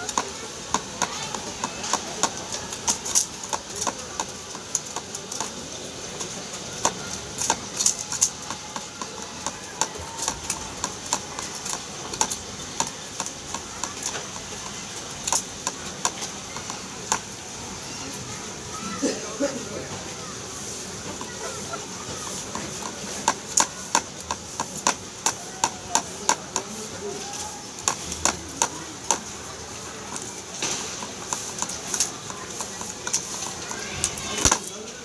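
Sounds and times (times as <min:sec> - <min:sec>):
beaks tapping on hard surface: 0:00.0 - 0:17.4, 0:21.1 - 0:34.7.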